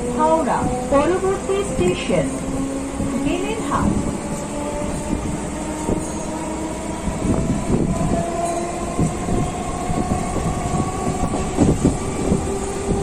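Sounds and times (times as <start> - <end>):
train drive whine: 0.0 - 13.0
train knocks and clatter: 0.0 - 13.0
train wheels rumbling on track: 0.0 - 13.0.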